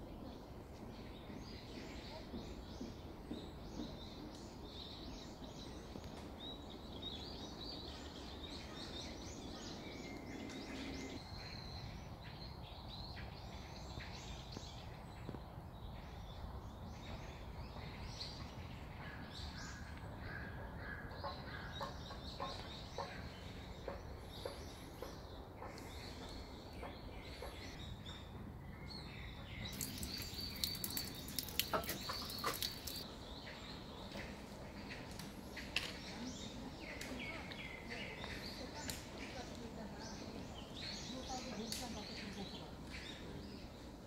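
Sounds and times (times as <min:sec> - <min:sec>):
songbirds chirping: 0:00.0 - 0:44.0
woodland ambience hush: 0:00.0 - 0:44.0.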